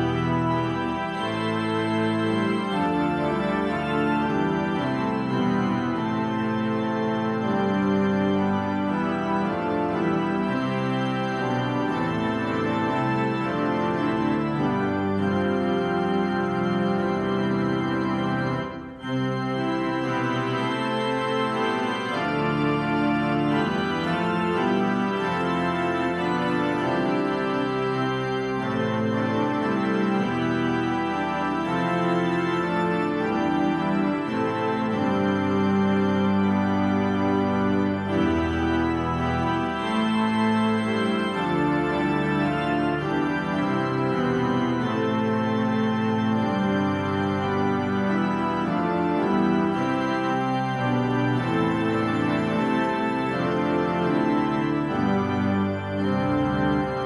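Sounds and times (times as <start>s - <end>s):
organ playing sustained chords: 0.0s - 57.0s.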